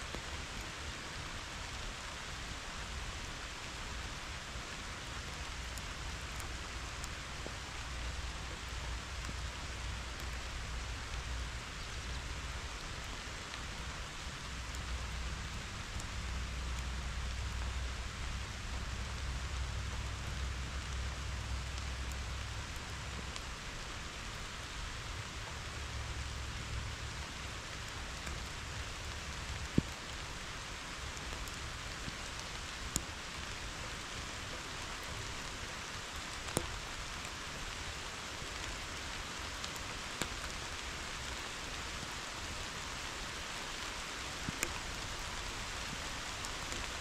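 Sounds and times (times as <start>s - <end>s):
rain falling on grass: 0.0s - 47.0s.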